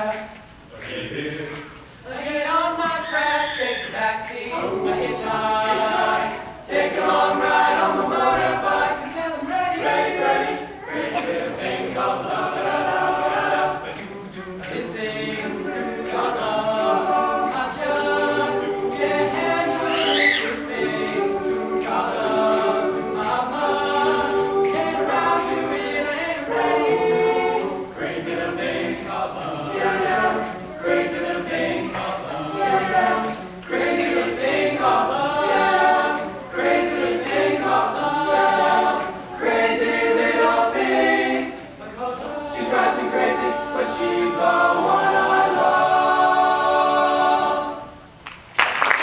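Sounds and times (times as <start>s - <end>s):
choir singing: 0.0s - 48.2s.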